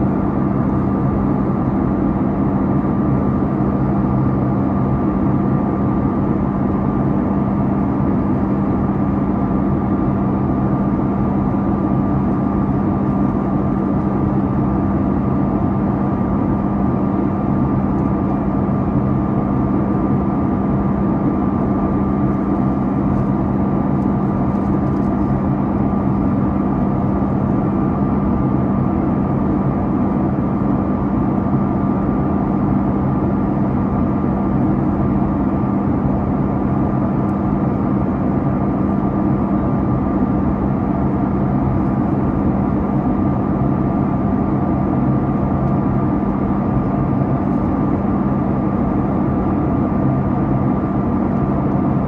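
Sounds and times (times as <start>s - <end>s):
jet engine drone: 0.0s - 52.0s.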